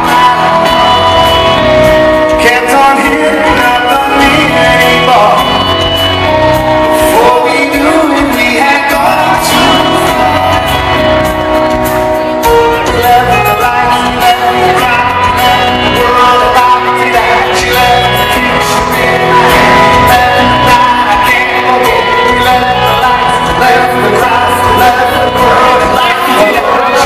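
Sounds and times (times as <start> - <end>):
man singing into microphone: 0.0 - 11.5, 12.2 - 27.0
live country-pop band: 0.0 - 27.0.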